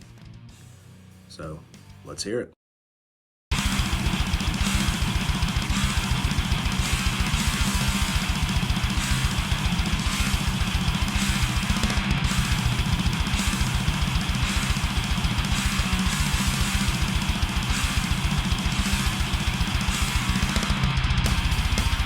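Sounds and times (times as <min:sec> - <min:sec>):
fast kick drum: 0:03.5 - 0:22.0
heavily distorted electric guitar riff: 0:03.5 - 0:22.0.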